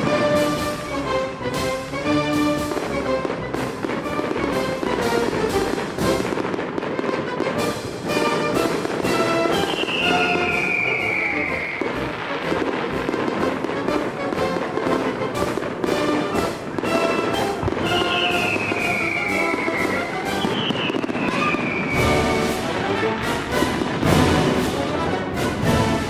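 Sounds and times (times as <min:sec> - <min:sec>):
fireworks bursting and crackling: 0:00.0 - 0:26.0
music playing: 0:00.0 - 0:26.0.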